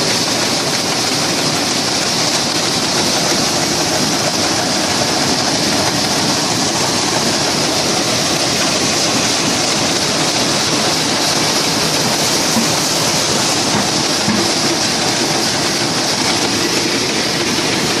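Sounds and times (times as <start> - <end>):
rice milling machine clatter: 0.0 - 18.0.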